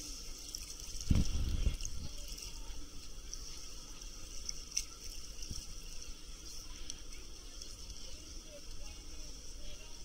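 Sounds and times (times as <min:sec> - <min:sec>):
water lapping and trickling: 0:00.0 - 0:10.0.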